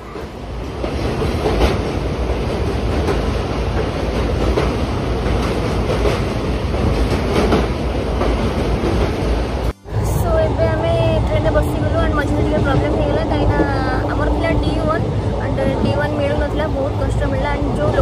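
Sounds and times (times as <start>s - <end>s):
rumble of train wheels: 0.0s - 18.0s
track clacks: 0.1s - 18.0s.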